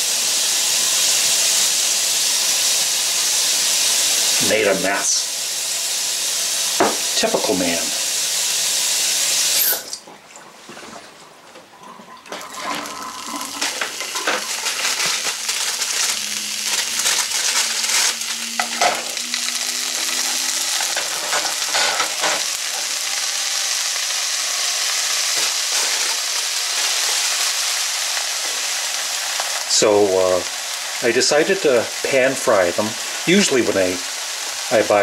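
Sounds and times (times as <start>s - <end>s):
patties sizzling in a pan: 0.0s - 9.9s, 12.4s - 35.0s.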